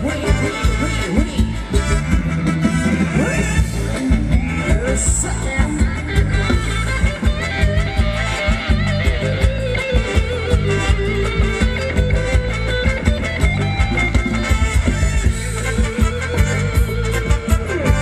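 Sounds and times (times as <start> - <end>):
live band dance music: 0.0 - 18.0.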